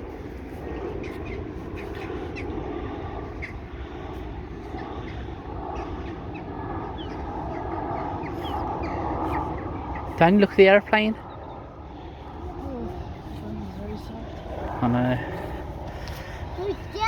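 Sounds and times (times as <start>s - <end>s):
airplane rumble overhead: 0.0s - 17.0s.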